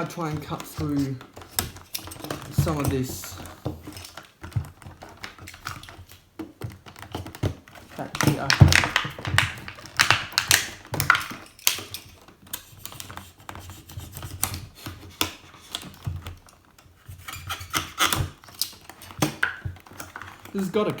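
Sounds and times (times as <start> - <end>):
plastic toy and cardboard handled: 0.0 - 21.0.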